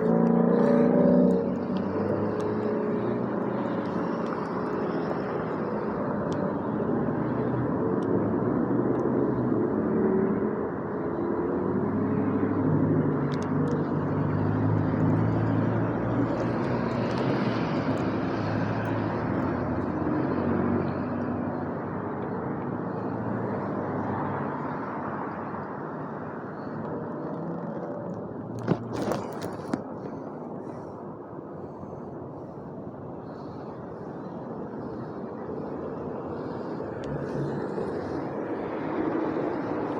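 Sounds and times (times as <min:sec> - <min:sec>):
vehicle noise with faint hum: 0:00.0 - 0:39.9.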